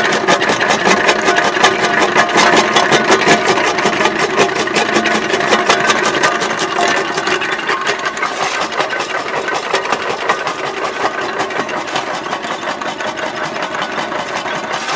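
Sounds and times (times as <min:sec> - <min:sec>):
jaw crusher clattering: 0:00.0 - 0:14.9.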